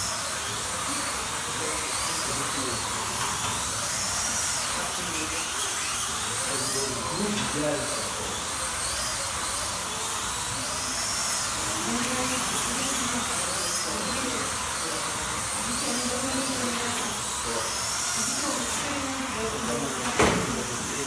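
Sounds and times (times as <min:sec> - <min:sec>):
slot car motors whining: 0:00.0 - 0:21.0.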